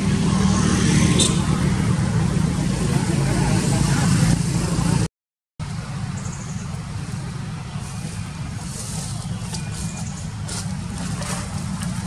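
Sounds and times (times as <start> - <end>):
low rumble with hiss: 1.6 - 12.0.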